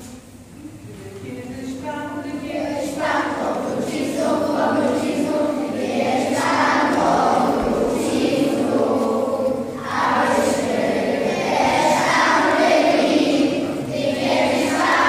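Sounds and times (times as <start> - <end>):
children singing together: 2.4 - 15.0.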